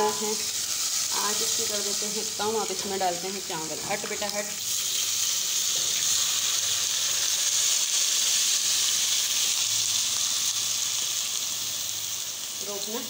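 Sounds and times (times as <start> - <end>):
oil sizzling in a pot: 0.0 - 13.0.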